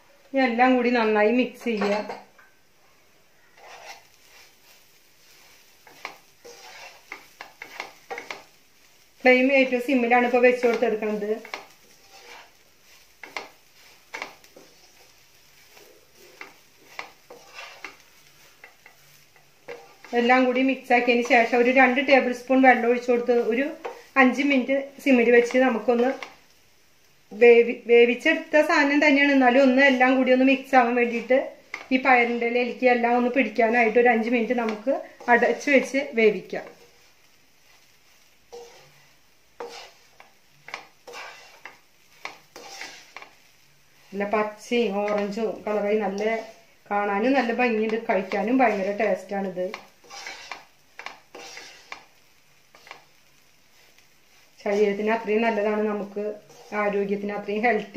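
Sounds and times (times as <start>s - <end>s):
wooden spatula scraping a pan: 1.2s - 2.4s, 3.4s - 26.6s, 27.2s - 57.9s.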